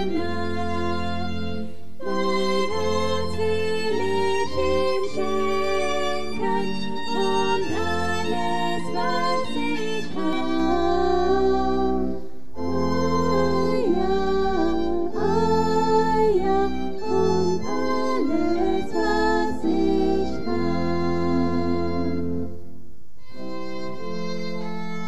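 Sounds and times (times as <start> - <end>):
solo melody with vibrato: 0.0 - 25.0.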